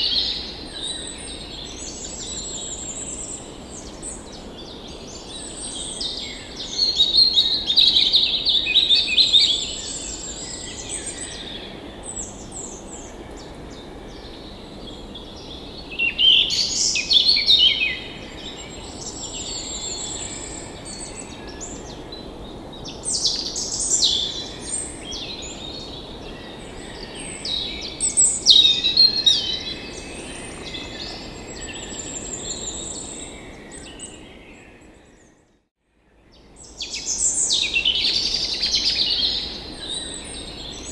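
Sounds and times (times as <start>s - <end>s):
songbirds chirping and trilling: 0.0s - 35.4s.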